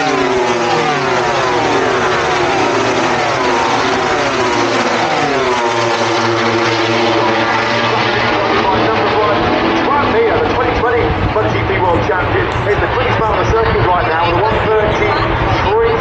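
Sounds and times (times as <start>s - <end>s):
racing motorcycle engines revving: 0.0s - 16.0s.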